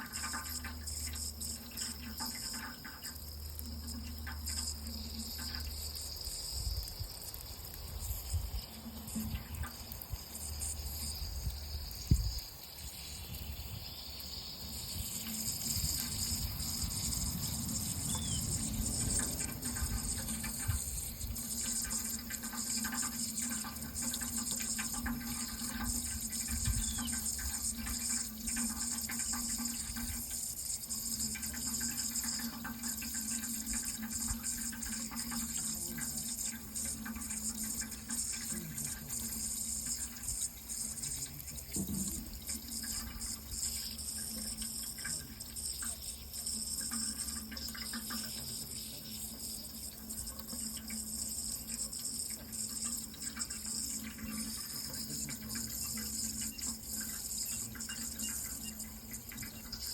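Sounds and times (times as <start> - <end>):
steady low hum: 0.0 - 59.9
tap water running into sink: 0.0 - 59.9.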